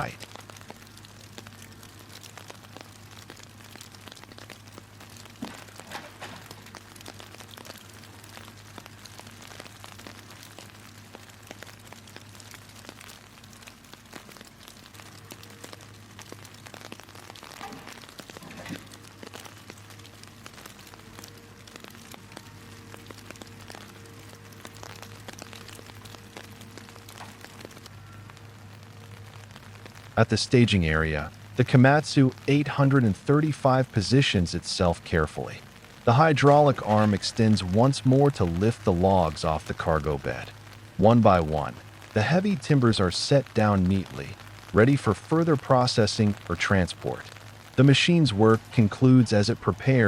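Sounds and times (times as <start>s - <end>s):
rain pattering: 0.0s - 50.0s
small crackles: 0.0s - 50.0s.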